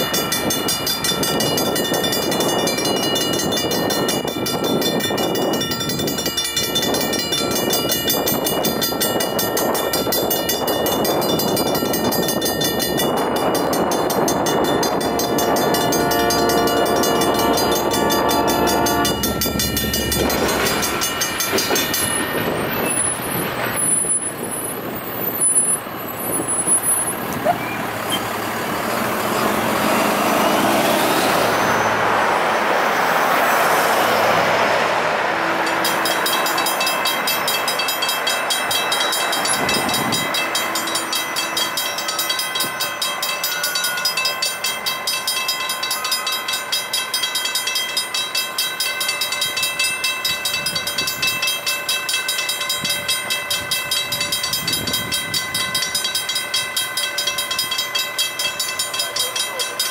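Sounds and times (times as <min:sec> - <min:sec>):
railroad crossing bell ringing: 0:00.0 - 0:59.9.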